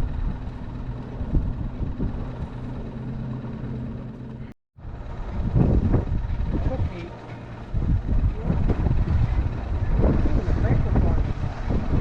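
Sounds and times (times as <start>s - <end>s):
wind noise on microphone: 0.0s - 3.4s, 4.8s - 12.0s
low motor hum: 0.0s - 12.0s.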